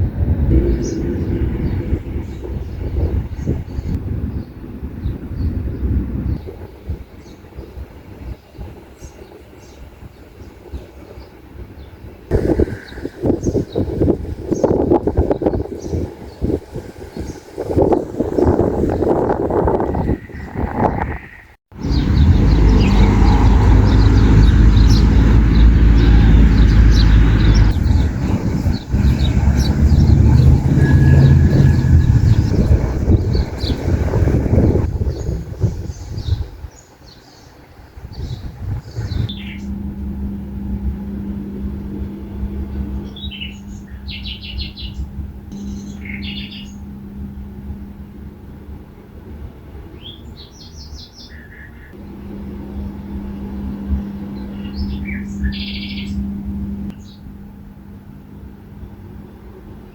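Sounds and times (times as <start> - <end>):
steady low rumble: 0.0 - 11.0, 11.6 - 36.8, 37.4 - 51.1, 51.7 - 59.9
small birds chirping: 0.5 - 40.4, 41.0 - 47.5, 49.9 - 57.3.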